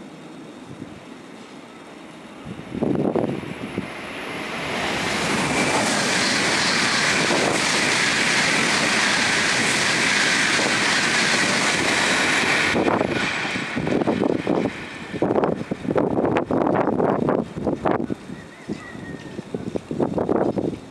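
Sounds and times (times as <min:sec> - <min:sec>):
bullet train passing at speed: 0:00.0 - 0:20.9.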